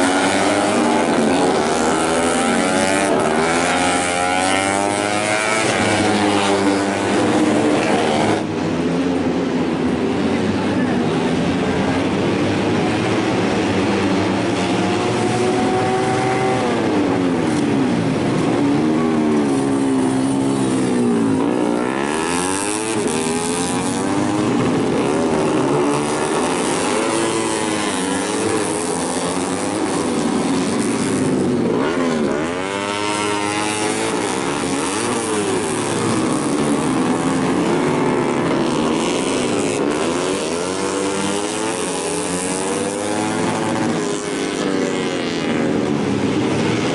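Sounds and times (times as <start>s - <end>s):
motorcycles racing past: 0.0s - 46.9s.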